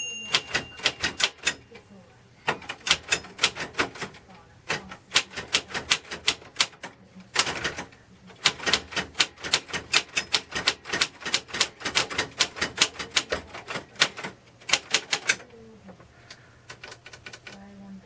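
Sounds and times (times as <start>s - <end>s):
typewriter keys clacking: 0.0s - 1.7s, 2.5s - 15.5s, 16.2s - 17.6s.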